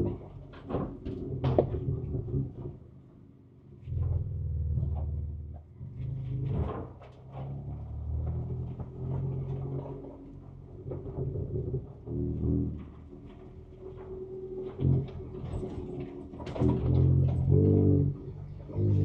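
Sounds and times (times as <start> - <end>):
knocks and rattles of truck: 0.0 - 3.0, 6.4 - 19.0
engine running from inside cab: 0.0 - 19.0.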